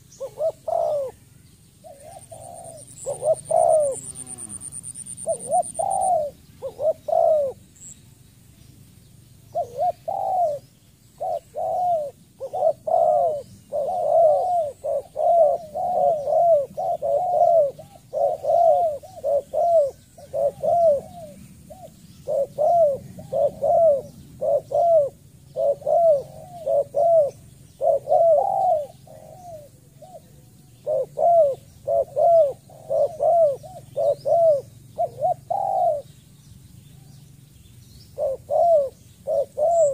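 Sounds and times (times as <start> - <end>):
dove cooing: 0.0 - 7.9, 9.5 - 36.2, 38.1 - 39.9.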